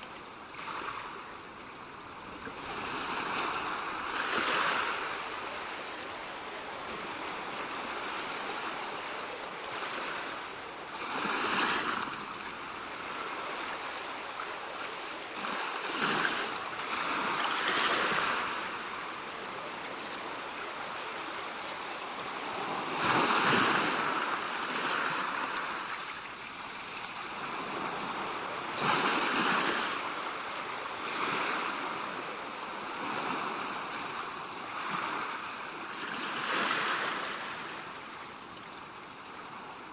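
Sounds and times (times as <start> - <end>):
ocean waves breaking: 0.0 - 38.3.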